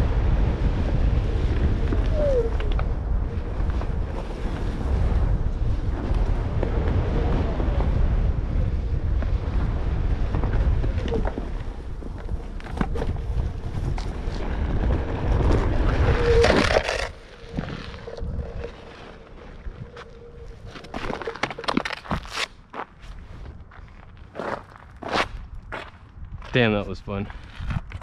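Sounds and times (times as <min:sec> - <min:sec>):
wind buffeting microphone: 0:00.0 - 0:22.3, 0:23.2 - 0:28.0
board rolling on dirt: 0:00.0 - 0:25.9.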